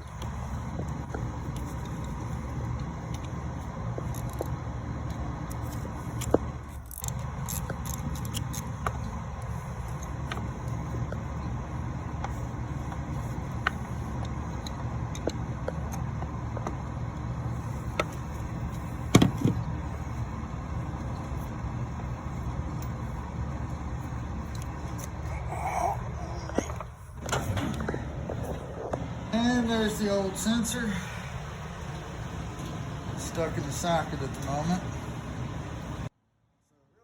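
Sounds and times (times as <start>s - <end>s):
low background rumble: 0.0s - 36.2s.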